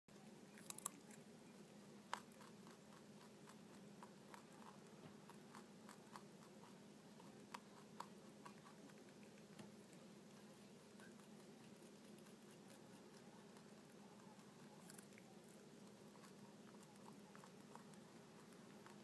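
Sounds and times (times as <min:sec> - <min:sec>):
low steady hum: 0:00.1 - 0:19.0
rabbit chewing: 0:00.1 - 0:19.0.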